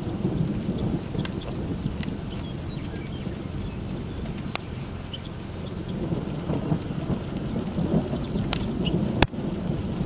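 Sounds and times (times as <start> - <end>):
thunder rumbling: 0.0 - 10.0.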